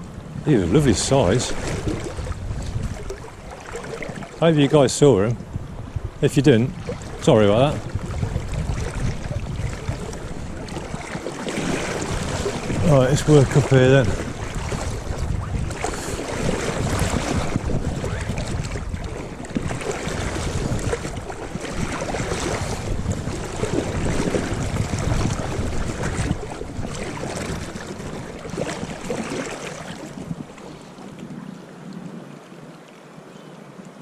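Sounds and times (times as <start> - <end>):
wind buffeting microphone: 0.0 - 32.7
river running: 0.0 - 34.0.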